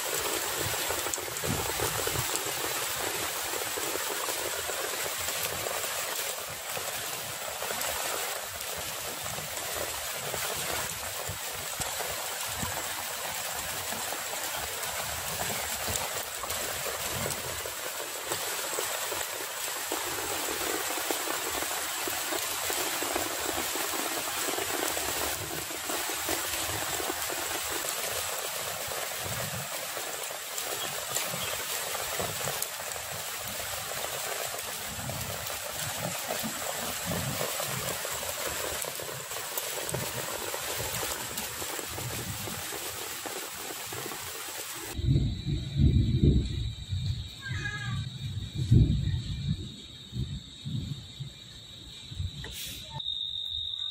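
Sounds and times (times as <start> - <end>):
floodwater rushing over ground: 0.0 - 45.7.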